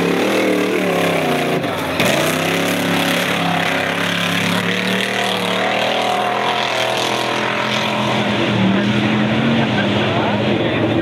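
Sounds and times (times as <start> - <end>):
truck engine revving high: 0.0 - 11.0.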